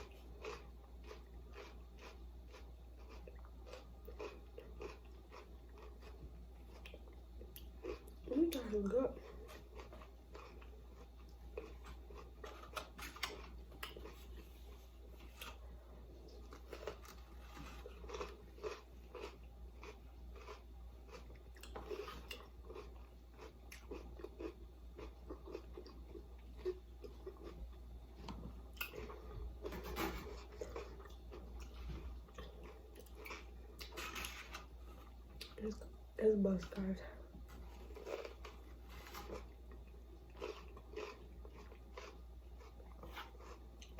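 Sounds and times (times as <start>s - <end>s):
person chewing and crunching: 0.0s - 35.8s, 37.5s - 43.9s.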